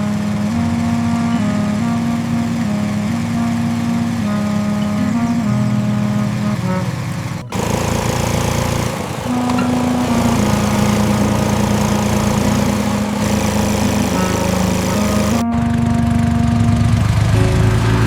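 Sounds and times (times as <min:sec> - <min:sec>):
small motor buzzing: 0:00.0 - 0:18.0.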